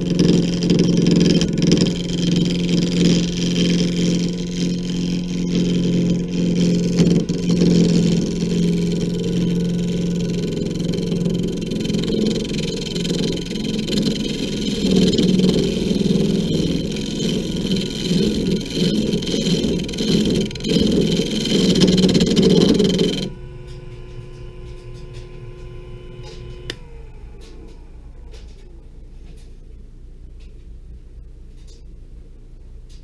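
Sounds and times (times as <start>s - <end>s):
tool scraping spinning wood: 0.0s - 26.9s
lathe humming: 0.0s - 28.8s.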